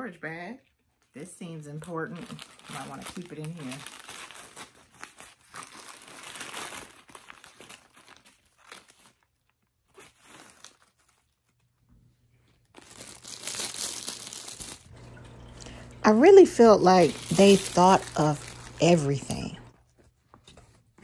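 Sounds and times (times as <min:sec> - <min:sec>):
bag and plastic crinkling: 0:01.6 - 0:11.7, 0:12.5 - 0:20.3.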